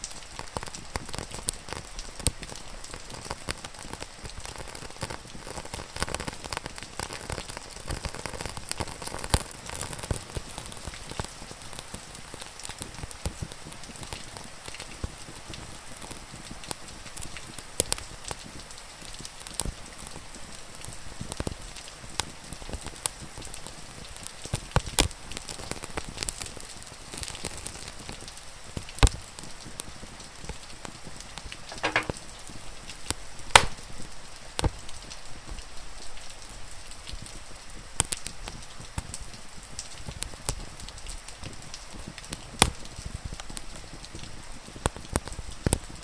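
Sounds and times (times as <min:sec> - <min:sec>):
rain hissing: 0:00.0 - 0:46.0
wood fire crackling and popping: 0:00.0 - 0:46.0.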